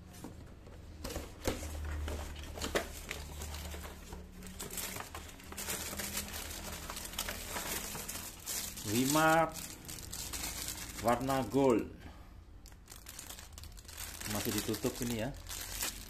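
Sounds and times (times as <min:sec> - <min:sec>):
packaging rustling and crinkling: 0:01.0 - 0:11.7, 0:12.7 - 0:16.0.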